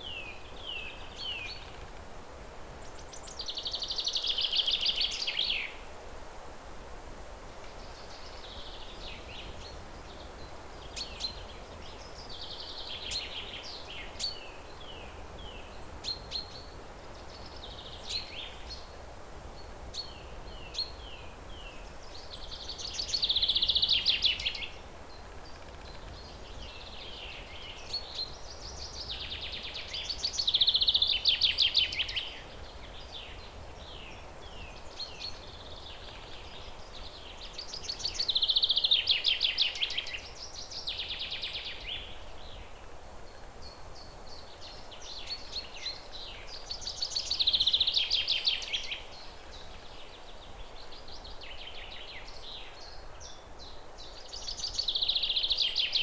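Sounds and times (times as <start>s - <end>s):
songbirds singing: 0.0s - 6.0s, 6.9s - 56.0s
low background hiss: 0.0s - 56.0s.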